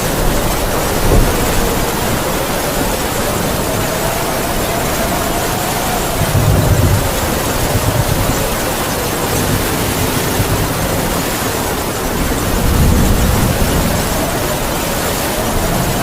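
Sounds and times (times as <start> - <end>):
heavy rain: 0.0 - 16.0
low wind gusts: 0.0 - 16.0
wind howling: 0.0 - 16.0.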